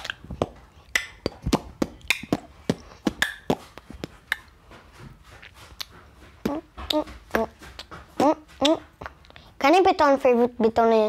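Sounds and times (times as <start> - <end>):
child beatboxing: 0.0 - 4.5, 5.8 - 11.0.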